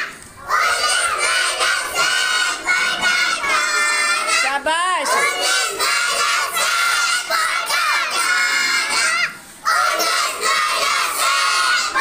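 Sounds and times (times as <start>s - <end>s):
children chanting in chorus: 0.0s - 12.0s.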